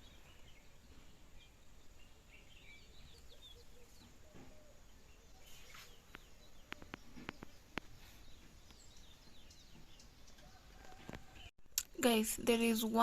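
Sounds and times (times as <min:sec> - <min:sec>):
distant birds chirping: 0:00.0 - 0:13.0.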